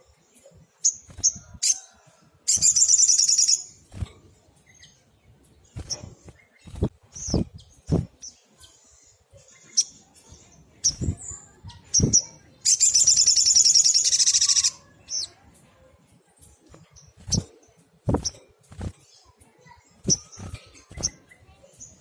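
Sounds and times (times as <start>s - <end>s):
bird chirping: 0.0s - 22.0s
bird trill: 0.4s - 4.0s, 4.6s - 15.6s, 16.5s - 22.0s.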